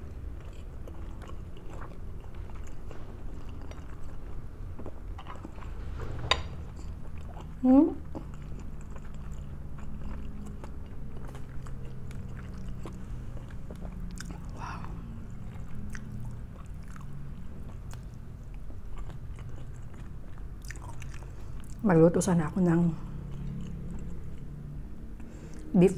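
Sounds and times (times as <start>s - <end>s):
person chewing food: 0.0s - 21.8s, 23.0s - 25.7s
low hum: 0.0s - 25.9s.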